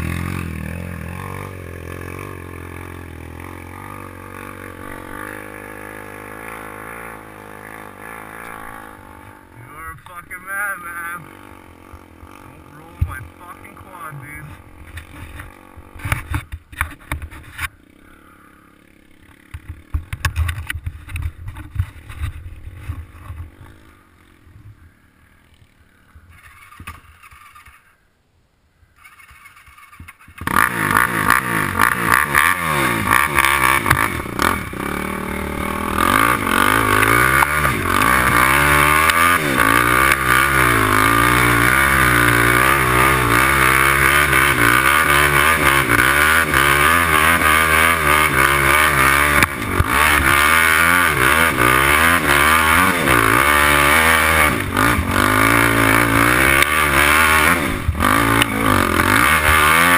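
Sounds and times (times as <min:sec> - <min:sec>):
quad engine revving: 0:00.0 - 0:25.1, 0:29.4 - 0:59.9.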